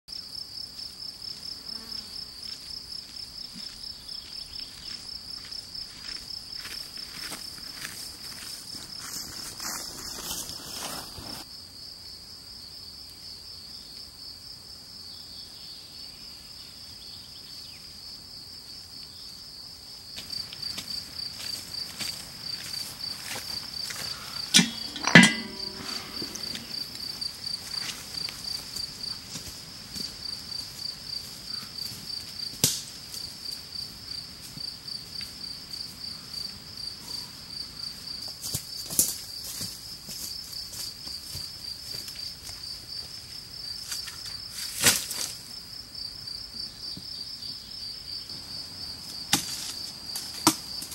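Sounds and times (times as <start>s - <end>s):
insects chirping: 0.1s - 50.9s.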